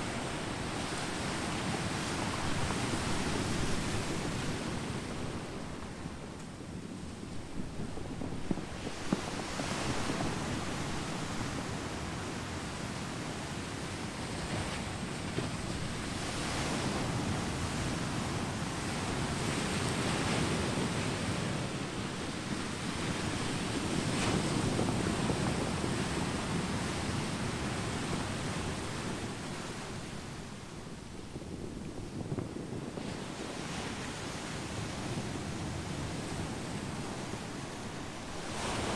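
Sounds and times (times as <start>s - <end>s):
surf washing over pebbles: 7.2s - 38.9s.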